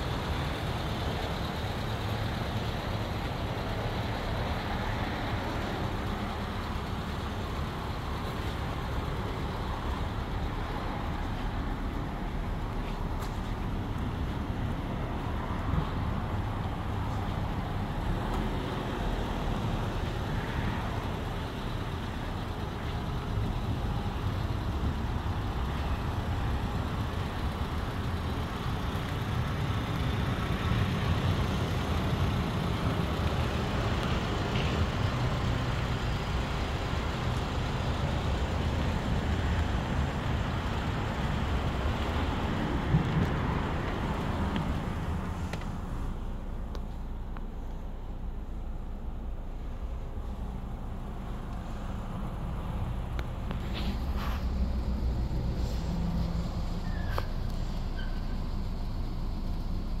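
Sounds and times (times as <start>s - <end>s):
road traffic rumble: 0.0s - 60.0s.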